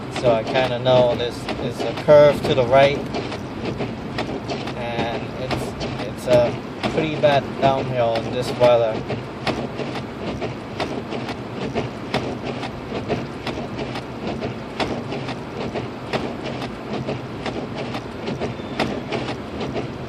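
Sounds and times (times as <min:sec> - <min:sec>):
irregular clicks and ticks: 0:00.0 - 0:19.9
engine and tyre drone: 0:00.0 - 0:20.0.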